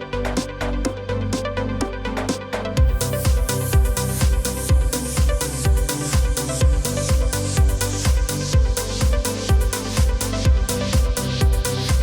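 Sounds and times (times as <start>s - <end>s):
electronic background music: 0.0s - 12.0s
steady kick drum beat: 2.2s - 12.0s.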